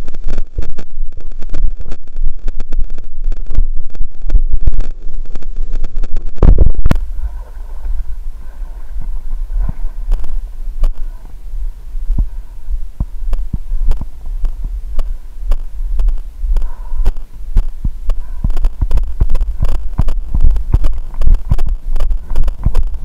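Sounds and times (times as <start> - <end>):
low microphone rumble: 0.0 - 23.0.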